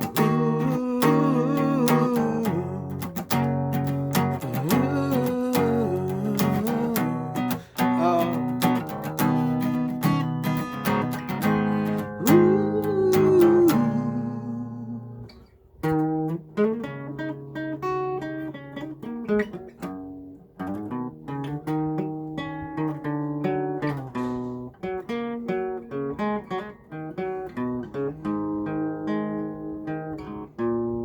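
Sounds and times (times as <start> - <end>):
acoustic guitar picking: 0.0 - 31.0.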